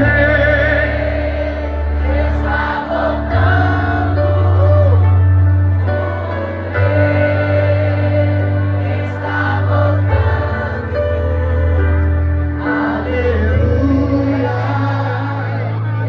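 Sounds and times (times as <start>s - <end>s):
choir singing: 0.0s - 16.0s
live gospel band: 0.0s - 16.0s.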